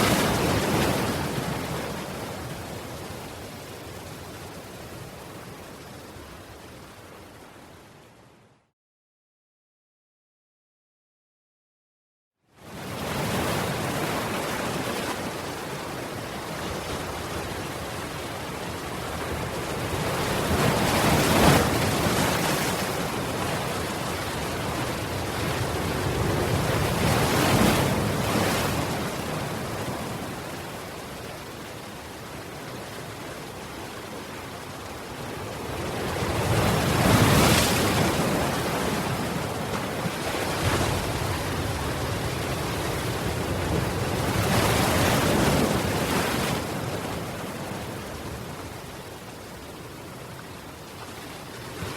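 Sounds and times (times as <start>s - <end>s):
ocean waves breaking: 0.0s - 5.6s, 12.6s - 51.9s
background surf wash: 0.0s - 8.6s, 12.6s - 51.9s.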